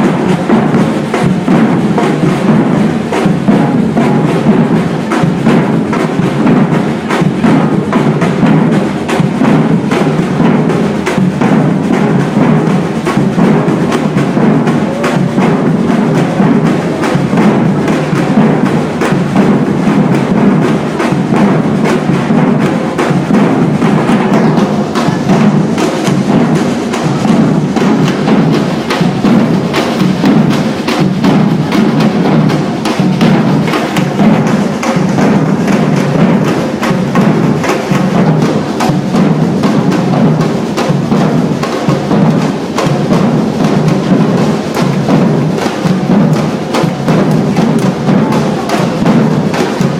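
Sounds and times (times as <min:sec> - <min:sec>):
drum ensemble playing: 0:00.0 - 0:49.9.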